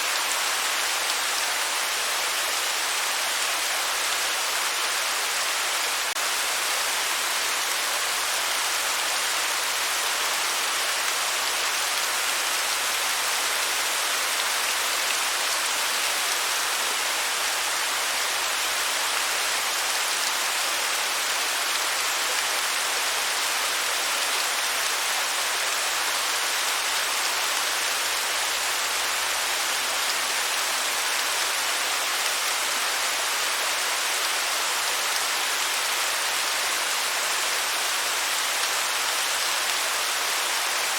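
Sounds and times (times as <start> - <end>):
waterfall hiss: 0.0 - 40.9.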